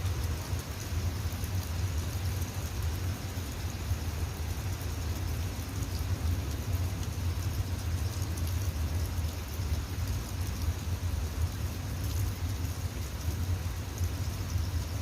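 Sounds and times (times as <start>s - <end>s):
raindrop ticks: 0.0s - 15.0s
steady rain falling: 0.0s - 15.0s.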